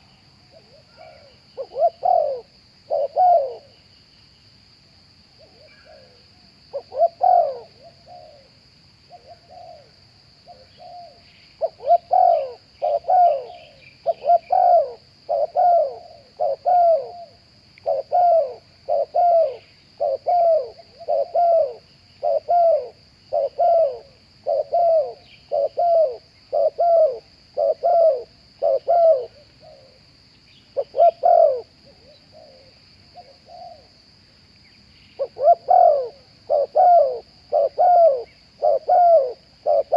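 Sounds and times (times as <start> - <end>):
doves cooing: 0.0 - 3.7, 5.4 - 8.5, 10.5 - 30.0, 30.8 - 33.9, 35.2 - 39.9.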